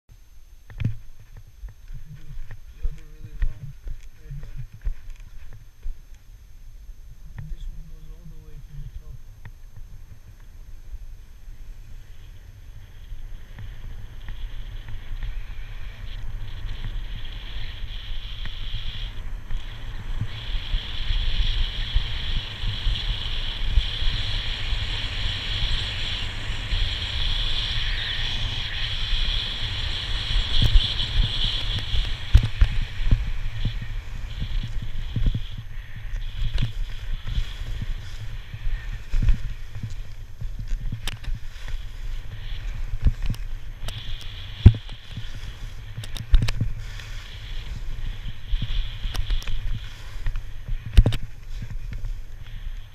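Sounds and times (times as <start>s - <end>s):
wind buffeting microphone: 7.0s - 52.9s
skis scraping over snow: 9.8s - 52.9s.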